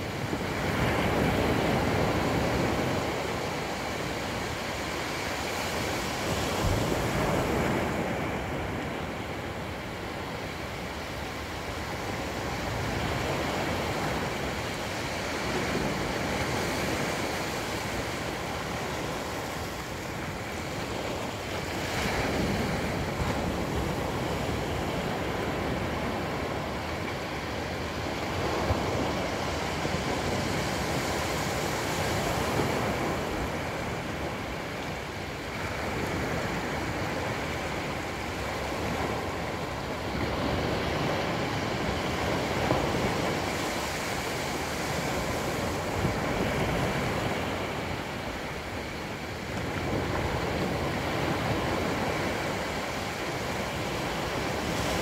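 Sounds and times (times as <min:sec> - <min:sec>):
small waves washing up beach: 0:00.0 - 0:55.0.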